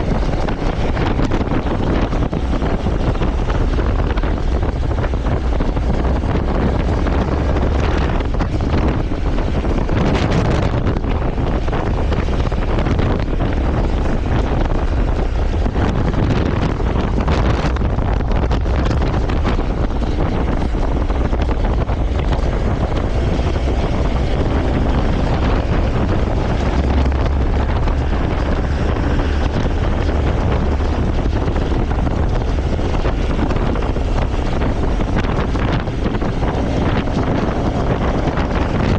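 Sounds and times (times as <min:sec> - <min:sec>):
motorcycle engine: 0:00.0 - 0:38.9
road noise: 0:00.0 - 0:38.9
wind buffeting microphone: 0:00.0 - 0:38.9.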